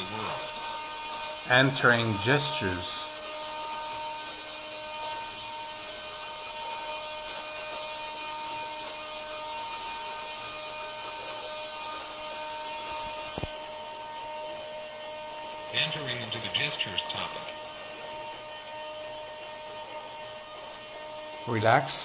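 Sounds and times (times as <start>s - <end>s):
electrical hum with held tones: 0.0s - 22.0s.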